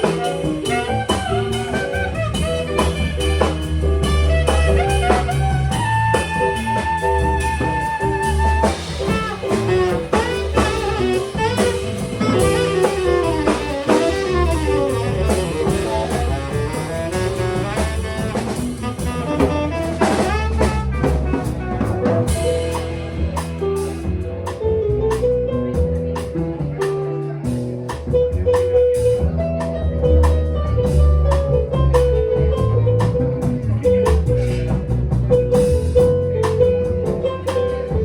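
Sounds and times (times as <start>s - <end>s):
jazz band playing: 0.0s - 38.0s.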